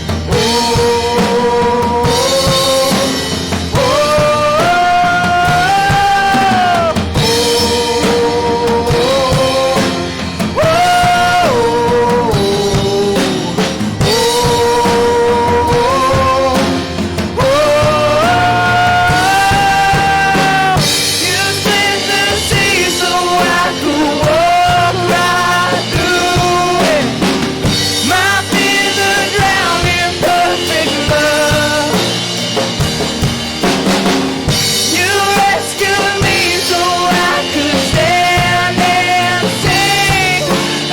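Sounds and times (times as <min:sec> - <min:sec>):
drum kit: 0:00.0 - 0:40.9
worship band playing: 0:00.0 - 0:40.9
person singing long notes: 0:00.2 - 0:32.5, 0:34.8 - 0:40.9.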